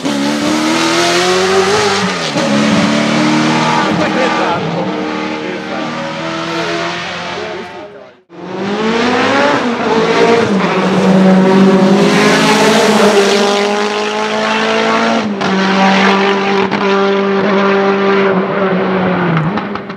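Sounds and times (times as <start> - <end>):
race car engine at high revs: 0.0 - 19.9.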